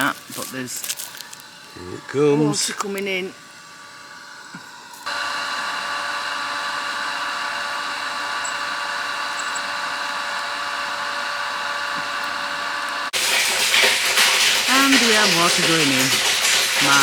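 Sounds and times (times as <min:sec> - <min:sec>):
electric water pump whining: 0:00.0 - 0:17.0.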